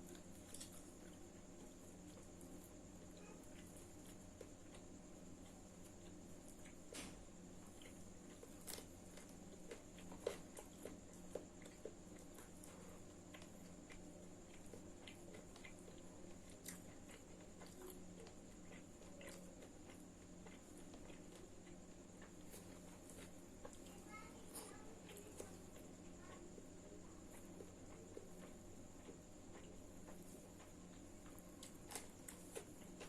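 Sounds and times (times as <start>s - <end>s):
chewing clicks and bites: 0.0s - 23.9s, 24.6s - 33.0s
faint hum: 0.0s - 33.0s.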